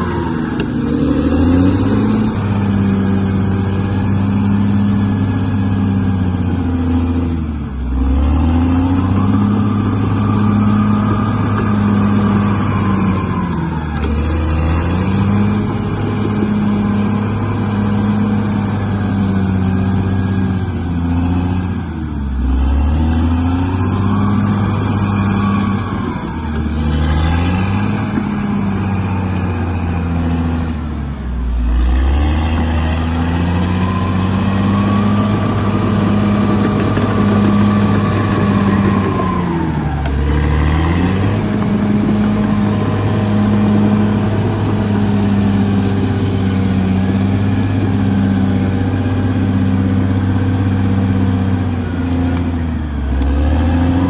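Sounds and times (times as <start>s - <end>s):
bulldozer diesel engine under load: 0.0s - 54.0s
high engine whine: 0.0s - 54.0s.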